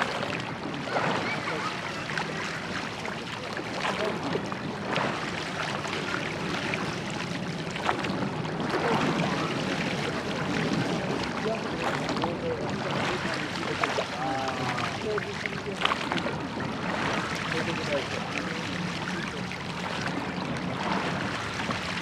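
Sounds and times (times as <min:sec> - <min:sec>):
faint voices: 0:00.0 - 0:22.0
knocks and splashes: 0:00.0 - 0:22.0
rushing water: 0:00.0 - 0:22.0
wind: 0:00.0 - 0:22.0.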